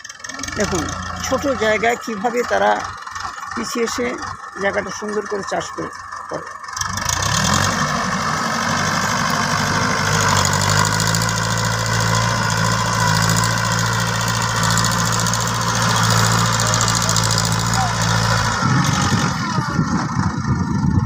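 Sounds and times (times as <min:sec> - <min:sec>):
rotary tiller through soil: 0:00.0 - 0:21.0
tractor diesel engine: 0:00.0 - 0:21.0.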